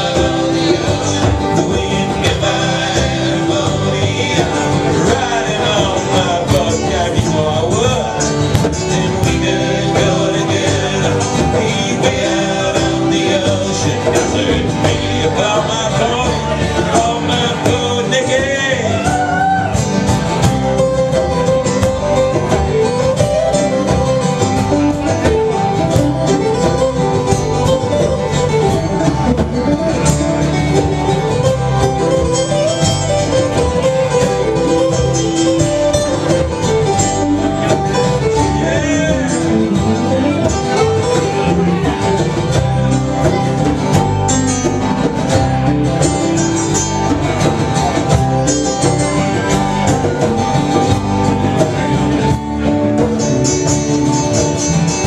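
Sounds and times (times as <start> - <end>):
guitar: 0.0 - 55.0
live band playing country song: 0.0 - 55.0.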